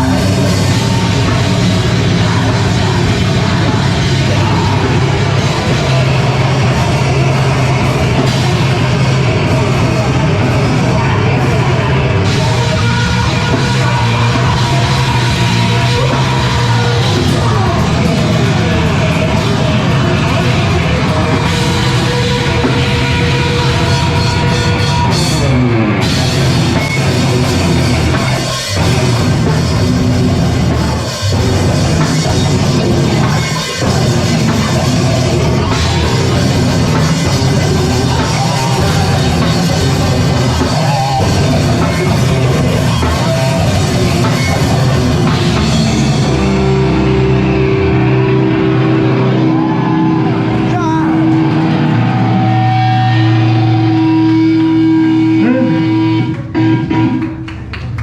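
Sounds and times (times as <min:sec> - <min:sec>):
distorted guitars: 0:00.0 - 0:58.0
drum kit: 0:00.0 - 0:58.0.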